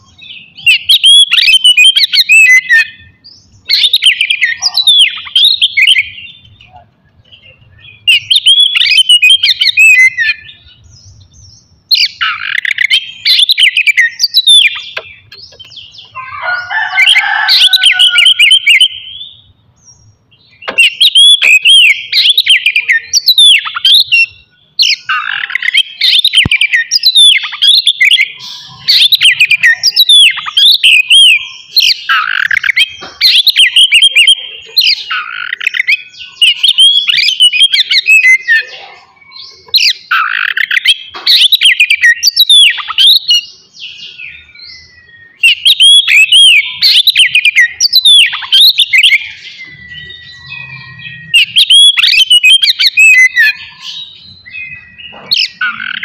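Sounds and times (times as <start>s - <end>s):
bird singing whistles and chatter: 0.0s - 56.0s.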